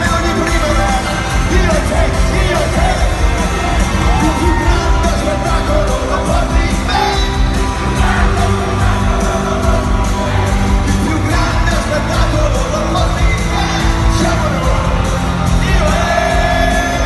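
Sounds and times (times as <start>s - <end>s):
band playing loud: 0.0s - 17.0s
crowd yelling and whooping: 0.0s - 17.0s
person singing: 0.0s - 17.0s.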